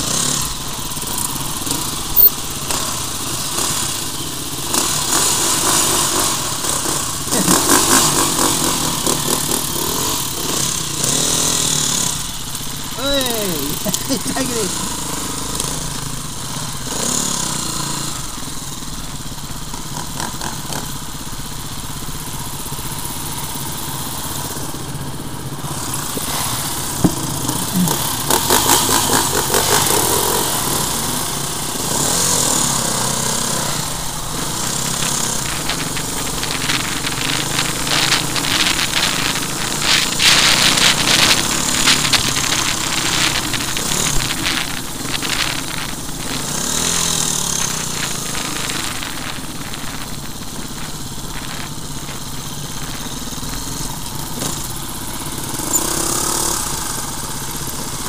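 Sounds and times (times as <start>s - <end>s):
dirt bike engines running: 0.0s - 58.0s.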